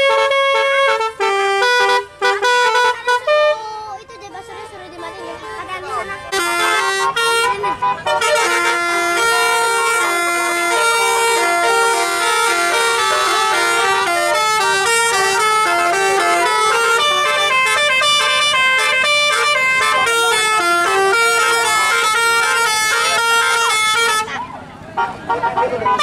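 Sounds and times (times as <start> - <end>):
multi-tone bus horn tune: 0.0 - 26.0.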